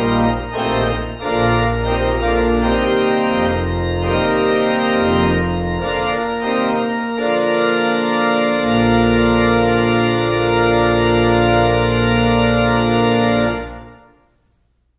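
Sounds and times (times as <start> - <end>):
deep organ pedal bass note: 0.0 - 14.0
pipe organ chords: 0.0 - 14.4.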